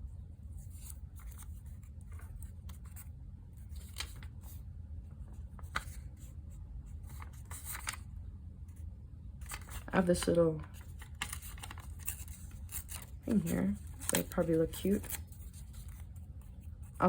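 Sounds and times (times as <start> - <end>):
low background hum: 0.0 - 17.0
paper rustling: 0.6 - 4.6, 5.3 - 8.1, 9.4 - 17.0.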